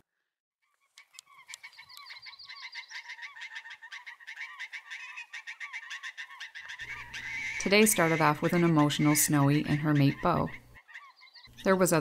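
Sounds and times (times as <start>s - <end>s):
blue jays calling: 0.8s - 12.0s.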